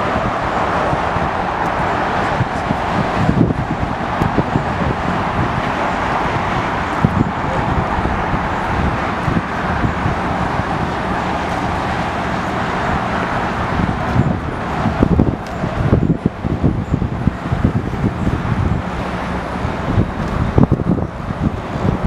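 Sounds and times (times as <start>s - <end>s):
distant jet engines roaring: 0.0s - 22.0s
wind buffeting microphone: 0.0s - 22.0s.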